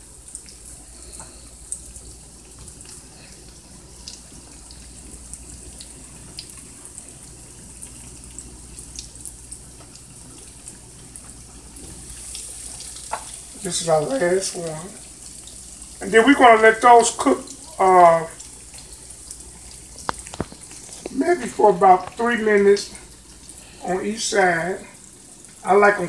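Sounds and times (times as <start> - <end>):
food frying in hot oil: 0.0 - 26.0.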